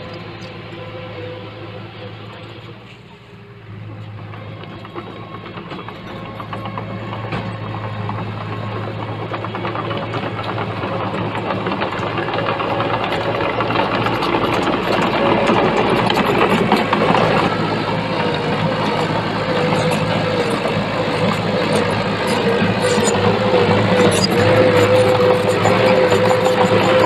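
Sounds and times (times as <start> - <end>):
diesel engine rattling: 0.0 - 27.0.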